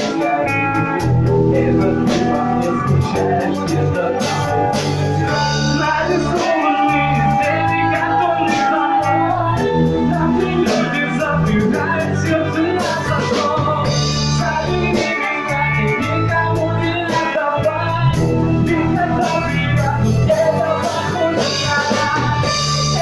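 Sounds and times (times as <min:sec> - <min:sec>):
bass notes: 0:00.0 - 0:23.0
drum kit beat: 0:00.0 - 0:23.0
guitar: 0:00.0 - 0:23.0.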